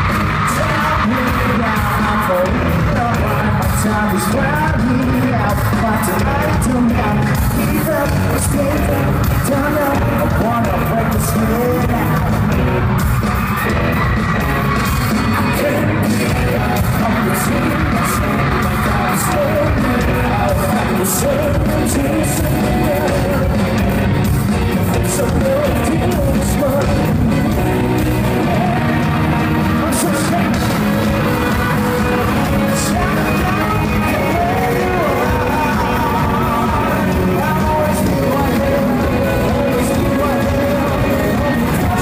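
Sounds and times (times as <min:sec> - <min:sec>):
live rock band playing: 0:00.0 - 0:42.0
man singing: 0:00.0 - 0:42.0.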